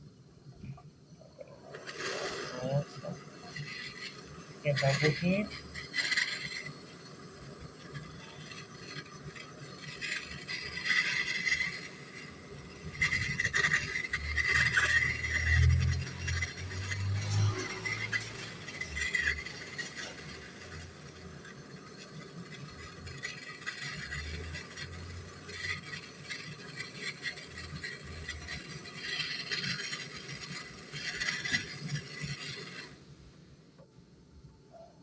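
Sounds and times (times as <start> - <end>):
torch flame hissing: 0.0 - 35.0
light metallic scraping and rattling: 0.6 - 34.0.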